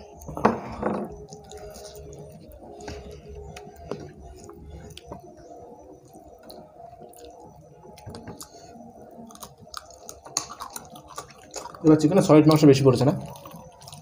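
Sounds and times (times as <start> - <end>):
chewing: 1.1 - 14.0
fingers squishing wet food: 1.1 - 14.0.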